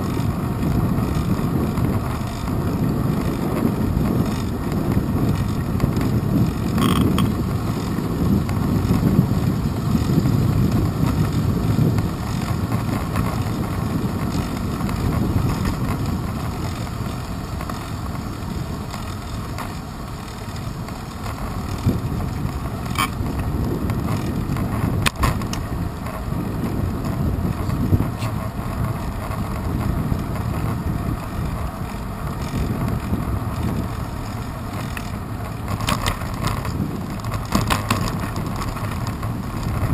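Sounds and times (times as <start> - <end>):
bicycle rattling and creaking: 0.0 - 39.9
wind rumbling on microphone: 0.0 - 39.9.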